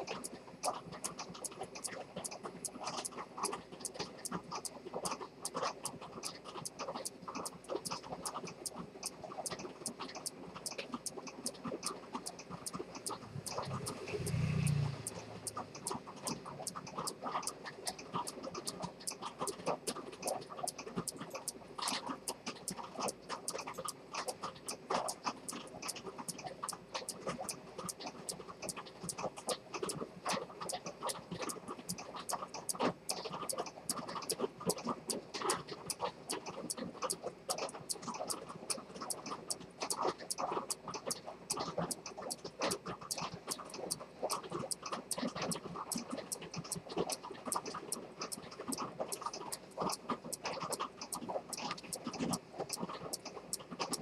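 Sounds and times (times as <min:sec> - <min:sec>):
pocket watch ticking: 0:00.0 - 0:54.0.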